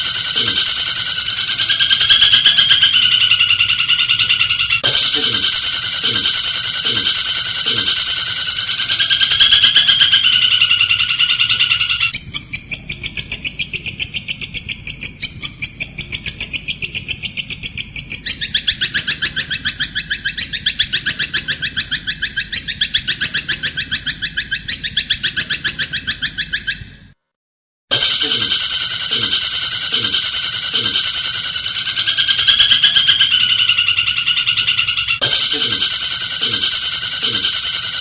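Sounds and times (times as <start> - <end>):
bird fast chatter: 0.0 - 26.9, 27.9 - 38.0
bird buzzy trill: 0.0 - 27.2, 27.9 - 38.0.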